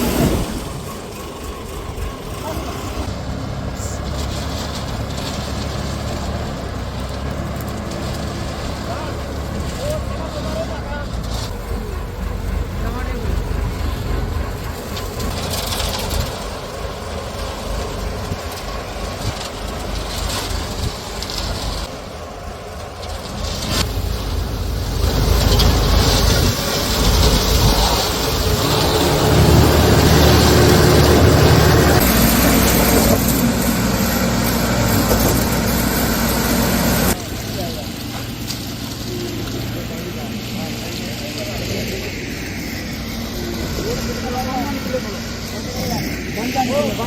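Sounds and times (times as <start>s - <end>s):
concrete mixer engine running: 0.0s - 47.0s.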